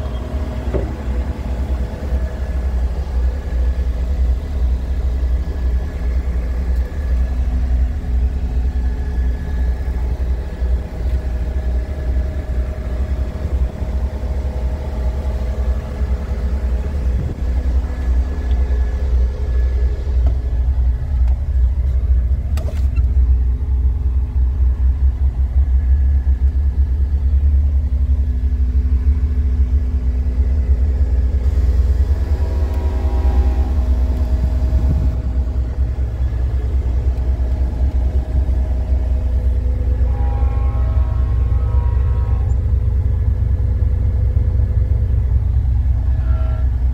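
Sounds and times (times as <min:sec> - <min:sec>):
diesel engine droning: 0:00.0 - 0:46.9.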